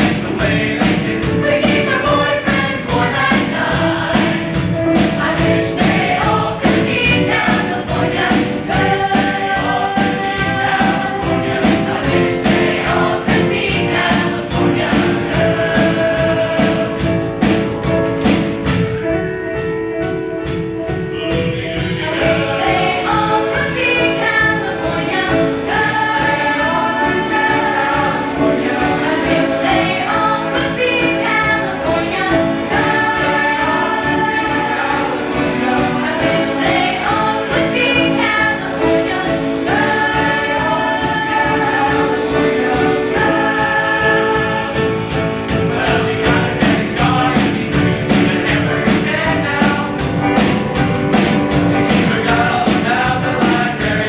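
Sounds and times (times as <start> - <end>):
mixed choir singing: 0.0 - 18.9, 20.9 - 54.0
drums keeping a beat: 0.0 - 54.0
live band: 0.0 - 54.0.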